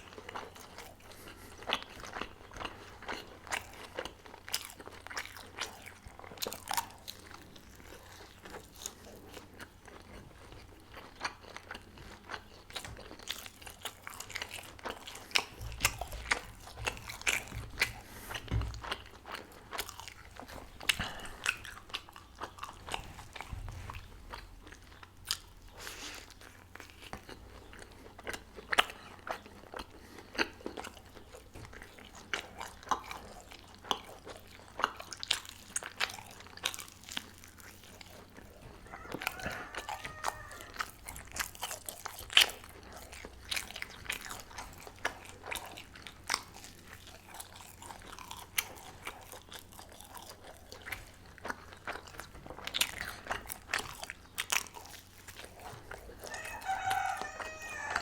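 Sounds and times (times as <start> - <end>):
person chewing pastry: 0.0 - 58.0.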